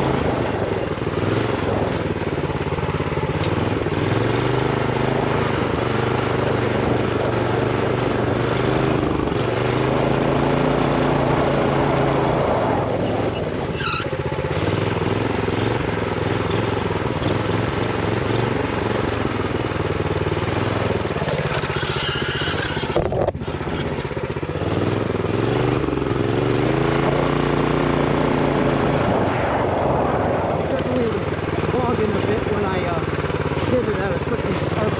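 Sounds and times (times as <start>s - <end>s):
minibike engine revving: 0.0s - 34.9s.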